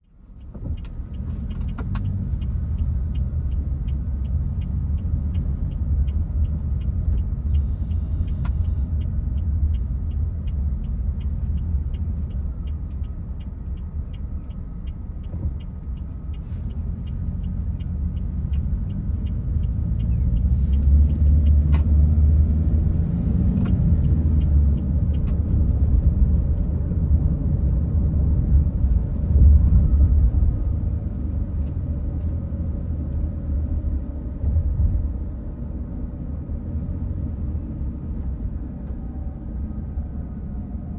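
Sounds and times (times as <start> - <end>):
turn signal ticking: 0.0 - 40.3
car road and engine rumble: 0.0 - 40.9.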